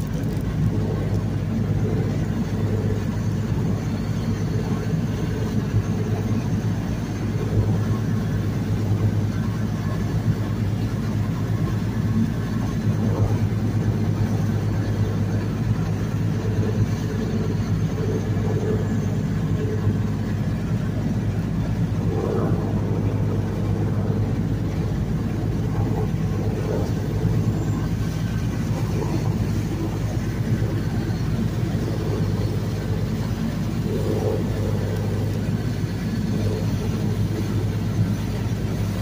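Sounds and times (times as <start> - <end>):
boat engine running: 0.0 - 39.0
water rushing past hull: 0.0 - 39.0.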